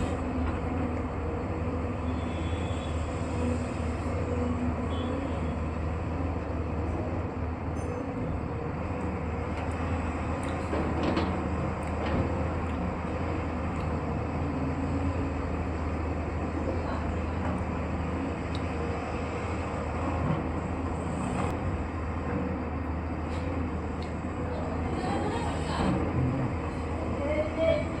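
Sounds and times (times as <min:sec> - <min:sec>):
heavy machine engine rumble: 0:00.0 - 0:28.0.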